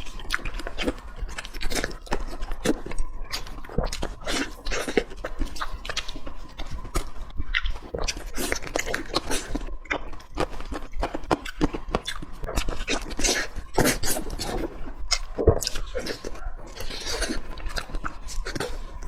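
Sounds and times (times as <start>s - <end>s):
person chewing and eating: 0.0s - 19.0s.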